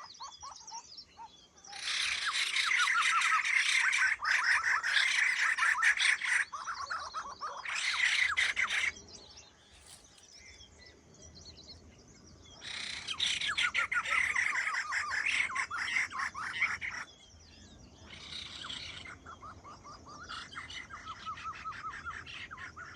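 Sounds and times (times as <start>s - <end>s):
birds chirping and chattering: 0.0s - 22.9s.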